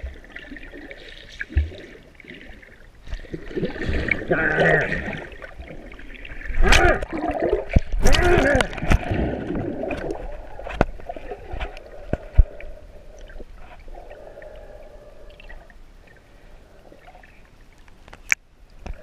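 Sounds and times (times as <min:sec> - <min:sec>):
underwater water and bubbles: 0:00.0 - 0:19.0.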